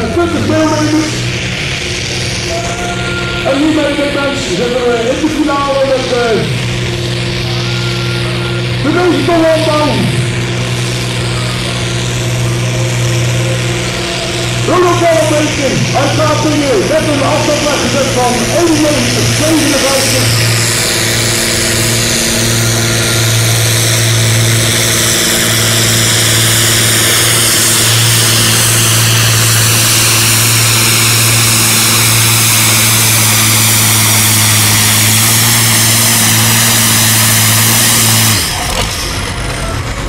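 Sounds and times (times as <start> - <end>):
tractor diesel engine under heavy load: 0.0 - 40.0.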